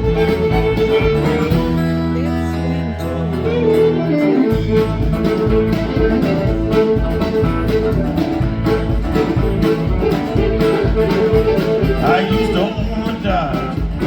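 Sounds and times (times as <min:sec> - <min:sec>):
country band playing: 0:00.0 - 0:14.0
picked guitar lead: 0:00.0 - 0:14.0.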